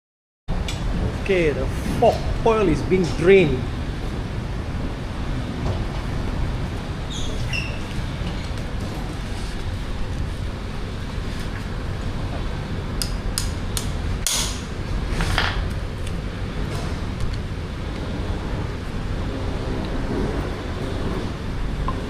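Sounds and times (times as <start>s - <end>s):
steady low rumble: 0.5s - 7.1s, 7.8s - 22.0s.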